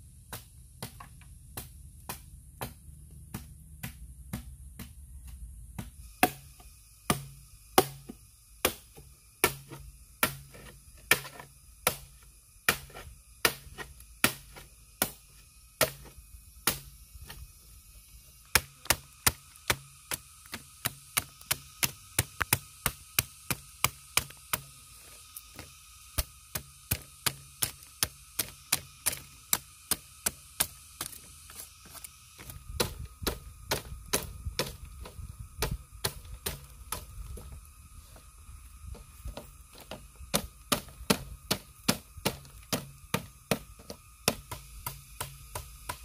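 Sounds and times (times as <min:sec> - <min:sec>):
machete chopping bamboo: 0:00.2 - 0:17.4, 0:18.5 - 0:24.8, 0:25.6 - 0:31.3, 0:32.4 - 0:37.1, 0:39.3 - 0:46.0.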